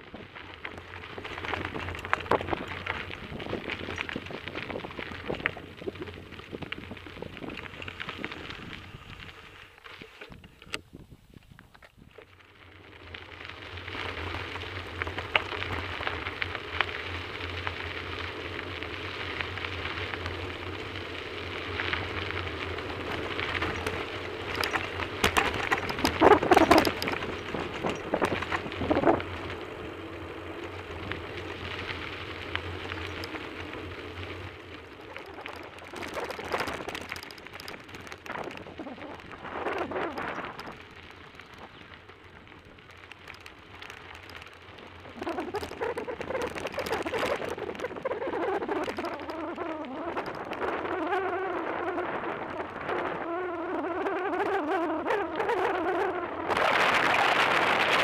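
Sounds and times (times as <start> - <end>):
bicycle rattling: 0.0 - 58.0
bicycle tyres crunching on gravel: 0.0 - 58.0.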